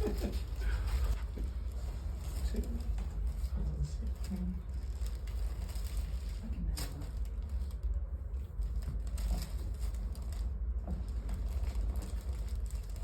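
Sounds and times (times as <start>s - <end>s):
low steady hum: 0.0s - 13.0s
soft rustling: 0.0s - 13.0s.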